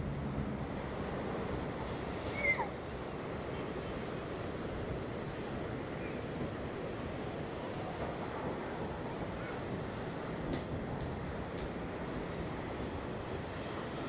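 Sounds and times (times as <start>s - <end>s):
surf rushing: 0.0s - 14.0s.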